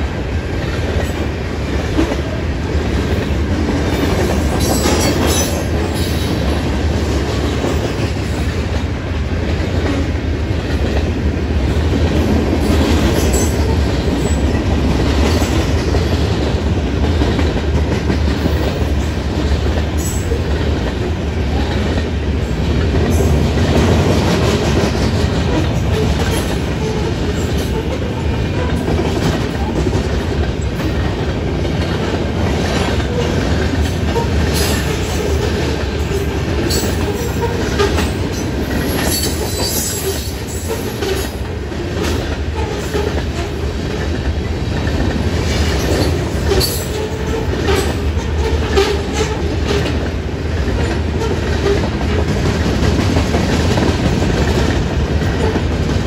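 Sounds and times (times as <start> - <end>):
train wheels rumbling on rails: 0.0 - 56.0
wheels clicking over rail joints: 0.4 - 56.0.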